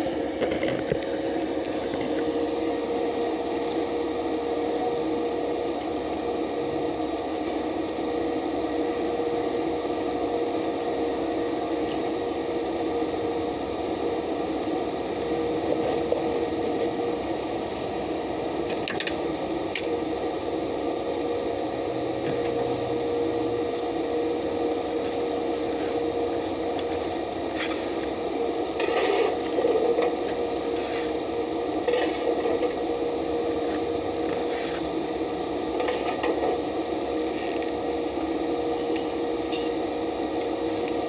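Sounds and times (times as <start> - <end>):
constant hum: 0.0 - 41.0
welding arc crackling sizzle: 0.0 - 41.0.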